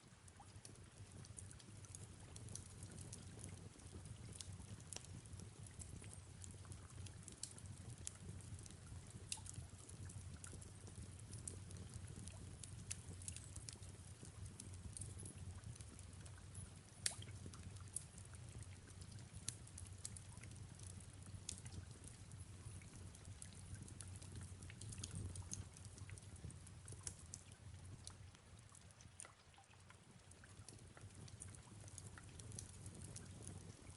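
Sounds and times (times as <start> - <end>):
low steady fire rumble: 0.0 - 33.9
fireplace crackling pops: 0.3 - 28.7, 30.6 - 33.9.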